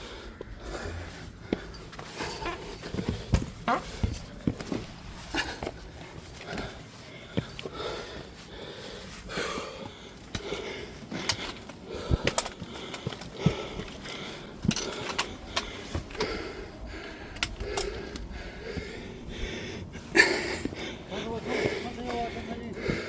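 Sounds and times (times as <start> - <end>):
person breathing noisily: 0.0 - 23.0.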